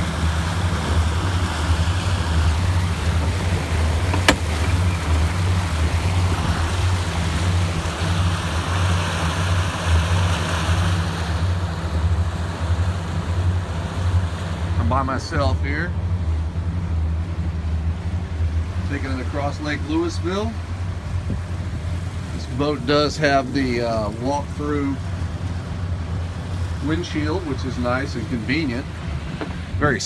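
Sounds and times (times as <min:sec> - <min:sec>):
boat engines droning: 0:00.0 - 0:30.0
churning wake water: 0:00.0 - 0:30.0.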